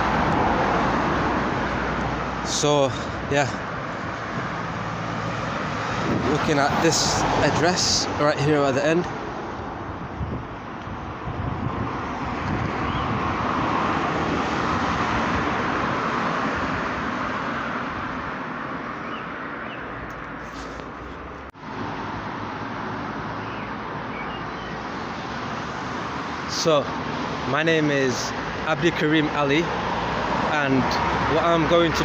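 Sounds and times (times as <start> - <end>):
passing road traffic: 0.0 - 32.0.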